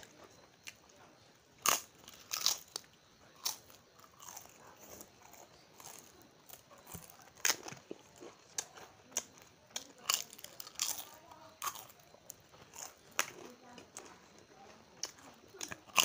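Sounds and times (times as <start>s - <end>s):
crunching of fried crisps: 1.6s - 16.0s.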